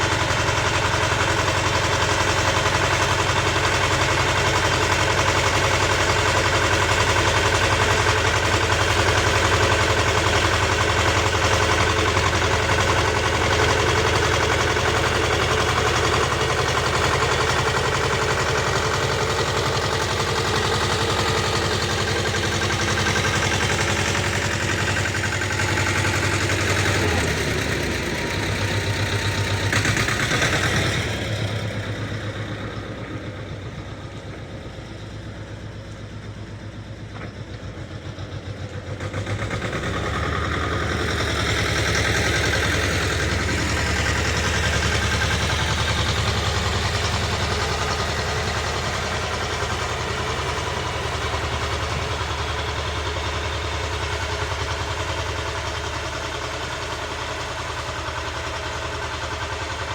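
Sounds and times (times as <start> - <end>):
cultivator engine tilling soil: 0.0 - 36.1, 37.2 - 59.9.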